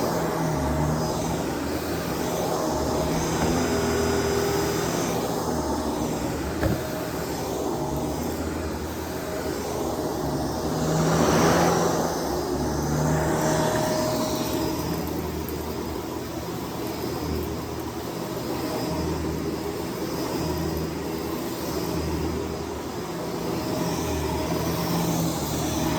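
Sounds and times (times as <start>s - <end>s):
vacuum cleaner motor drone: 0.0s - 25.9s.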